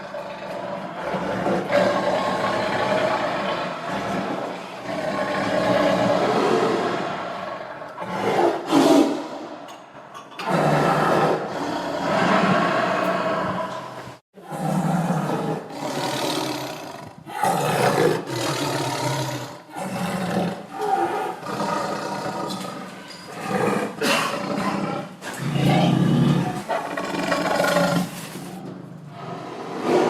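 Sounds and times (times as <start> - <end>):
tiger growling and roaring: 0.0 - 9.6, 10.4 - 30.0.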